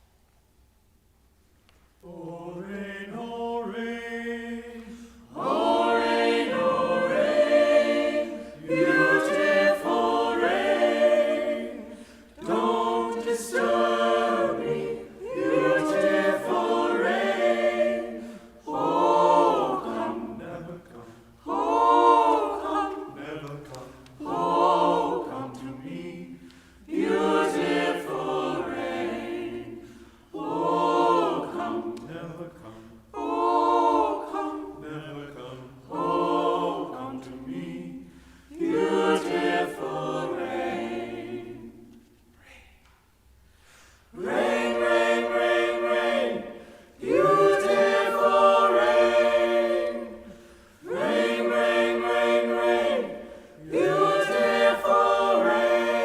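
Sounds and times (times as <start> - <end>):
choir singing a cappella: 1.9 - 56.0.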